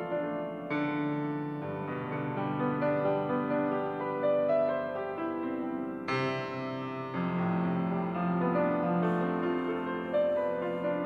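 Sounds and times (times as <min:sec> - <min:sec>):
grand piano chords: 0:00.0 - 0:11.0.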